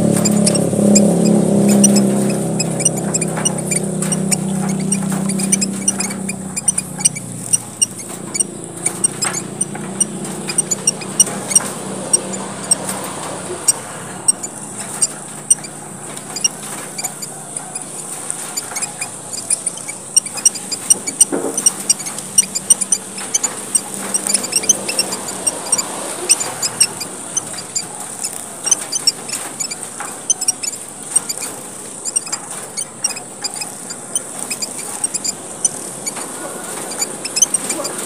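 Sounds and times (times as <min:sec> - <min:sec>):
finches chattering: 0:00.0 - 0:38.0.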